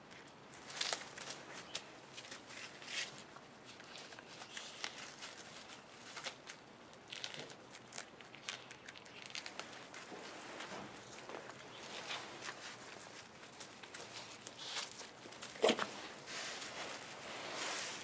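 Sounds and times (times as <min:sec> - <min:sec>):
leaf rustling and tearing: 0:00.5 - 0:18.0
animal chewing leafy greens: 0:00.6 - 0:17.6.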